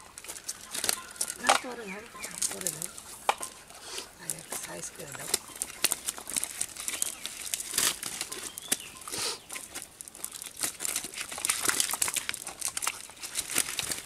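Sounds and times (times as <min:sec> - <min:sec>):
dry leaves and net rustling: 0:00.0 - 0:14.0.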